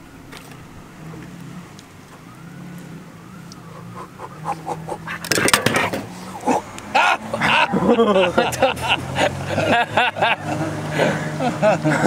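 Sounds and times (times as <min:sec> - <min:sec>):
distant siren wailing: 0:00.0 - 0:11.5
steady low hum: 0:00.0 - 0:12.0.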